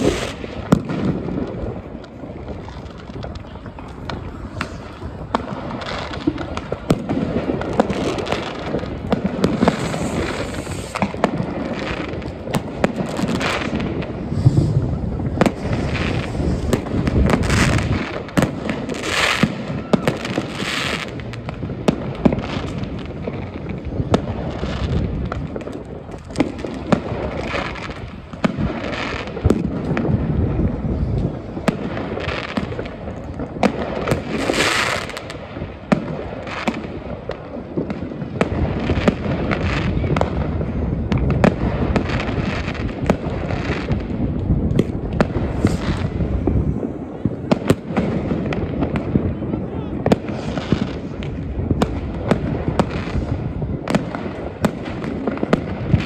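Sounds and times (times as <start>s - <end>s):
fireworks cracks and bangs: 0.0s - 56.0s
fireworks rumble and crackle: 0.0s - 56.0s.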